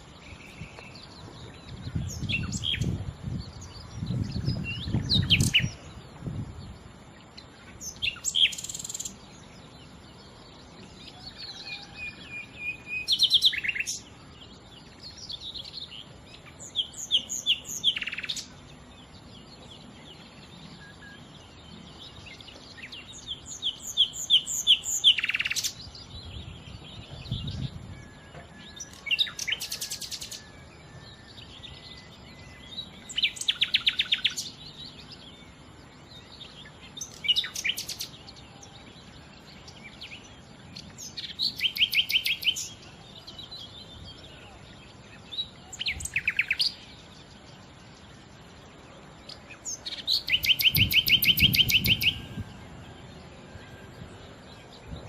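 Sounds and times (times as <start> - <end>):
nightingale singing: 0.0 - 55.0.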